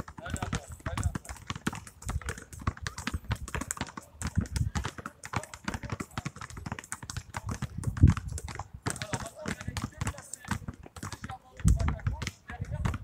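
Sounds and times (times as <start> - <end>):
basketballs bouncing on asphalt: 0.0 - 13.0.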